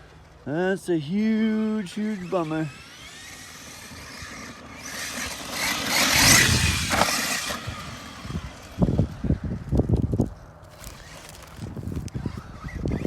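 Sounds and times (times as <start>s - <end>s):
electric motor whining: 1.2s - 13.0s.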